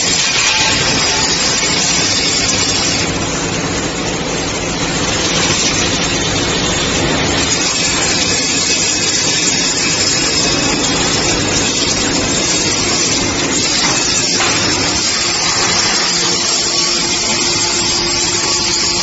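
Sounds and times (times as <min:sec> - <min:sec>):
machinery running: 0:00.0 - 0:19.0.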